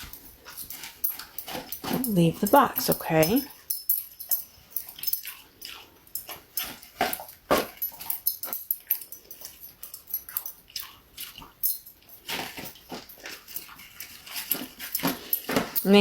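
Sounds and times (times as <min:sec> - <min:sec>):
dog chewing and licking: 0:00.0 - 0:16.0.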